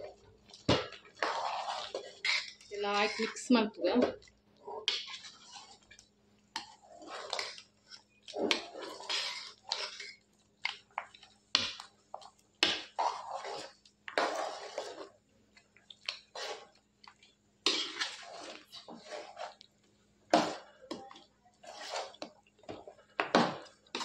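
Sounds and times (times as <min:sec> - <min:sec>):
metal spoon scraping a pan: 0:00.7 - 0:15.2, 0:16.0 - 0:16.8, 0:17.6 - 0:19.6, 0:20.3 - 0:24.0.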